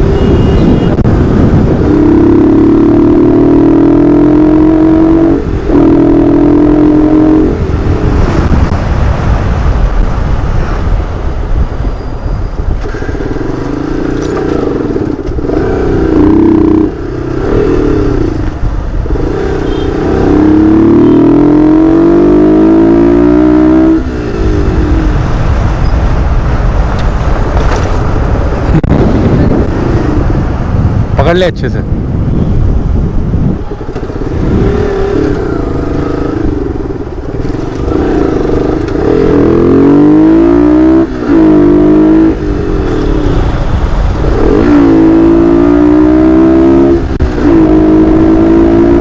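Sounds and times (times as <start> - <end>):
motorcycle engine accelerating: 0.0 - 10.2, 12.6 - 31.2, 32.1 - 49.0.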